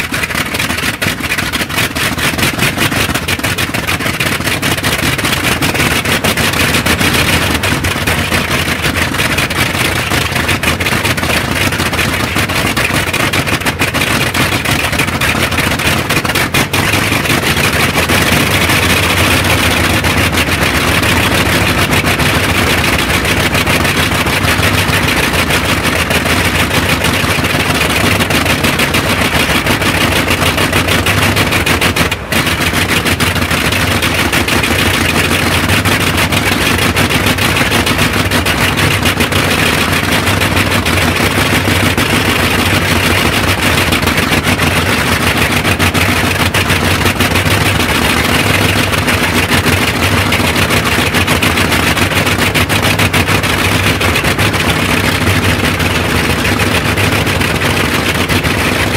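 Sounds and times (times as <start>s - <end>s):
radial aircraft engine running: 0.0s - 58.9s.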